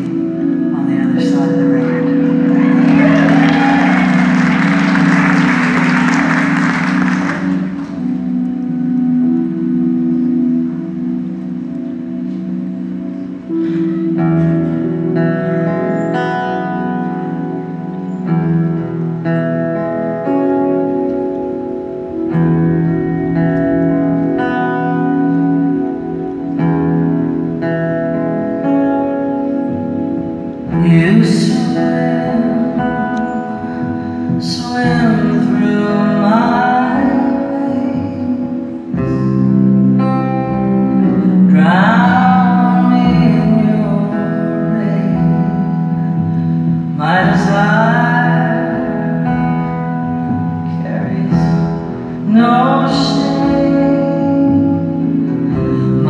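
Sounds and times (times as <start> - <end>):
band playing slow ballad: 0.0 - 56.0.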